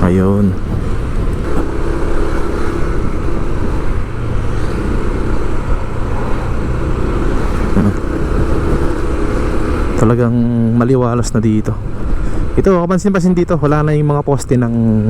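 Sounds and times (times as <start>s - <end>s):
car engine running: 0.0s - 13.1s
road noise: 0.0s - 15.0s.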